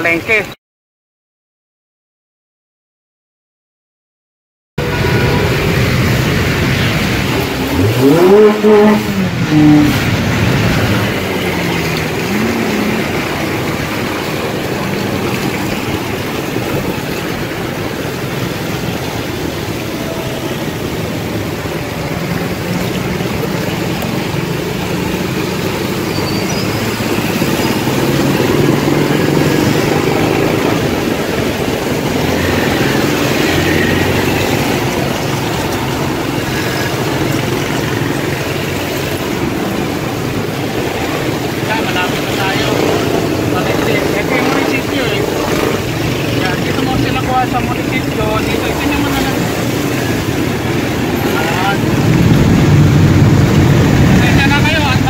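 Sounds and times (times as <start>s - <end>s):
motor scooter engine: 4.8s - 55.0s
steady rushing noise: 4.8s - 55.0s.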